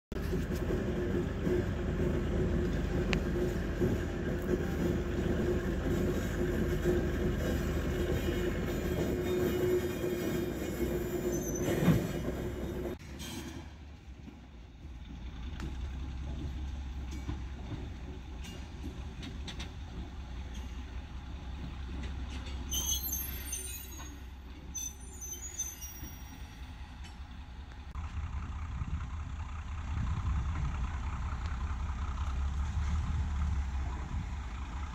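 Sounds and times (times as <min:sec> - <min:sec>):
diesel locomotive engine rumble: 0:00.1 - 0:34.9.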